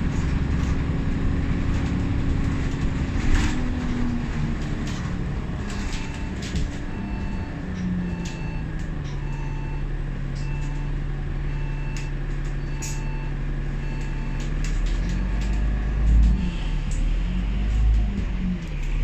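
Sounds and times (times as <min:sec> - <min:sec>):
bus engine drone: 0:00.0 - 0:19.0
deep rumble: 0:00.0 - 0:19.0.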